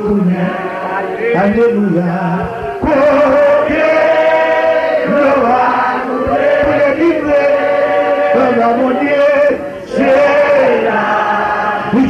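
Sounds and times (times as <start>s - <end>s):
voices chanting a worship song: 0.0s - 12.0s.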